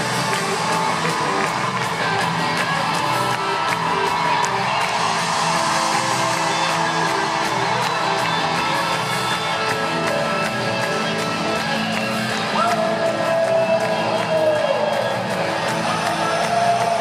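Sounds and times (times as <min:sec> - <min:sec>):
crowd cheering: 0:00.0 - 0:17.0.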